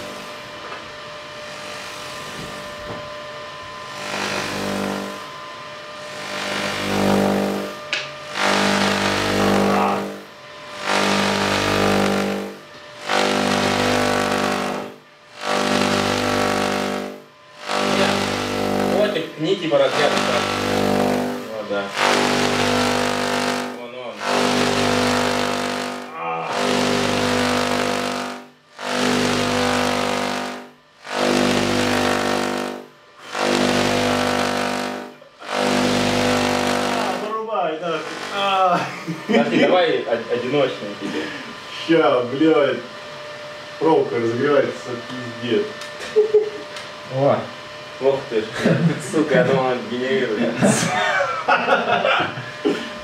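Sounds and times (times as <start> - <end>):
tesla coil electric buzz: 0.0 - 53.0.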